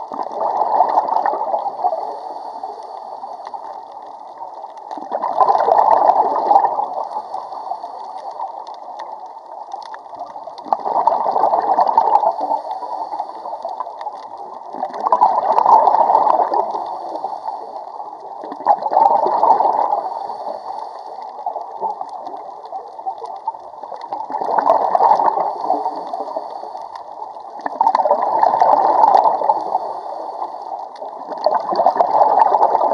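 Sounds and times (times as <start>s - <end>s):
underwater air bubbling: 0.0s - 32.9s
quiet regulator hiss: 1.2s - 5.0s, 6.1s - 10.8s, 11.7s - 18.5s, 19.7s - 24.4s, 25.1s - 31.8s.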